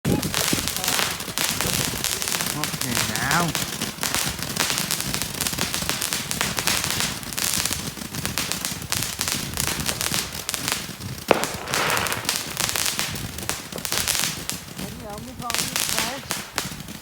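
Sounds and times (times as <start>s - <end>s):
firecrackers crackling: 0.0s - 17.0s
loud firecracker bang: 0.1s - 17.0s.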